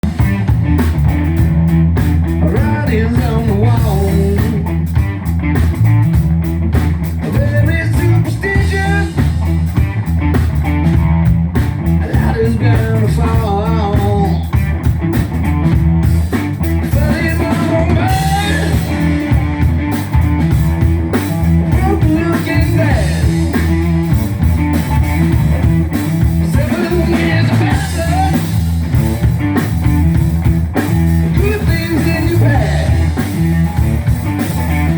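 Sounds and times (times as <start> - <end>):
bass and drums: 0.0 - 34.9
bending electric guitar lines: 0.0 - 34.9.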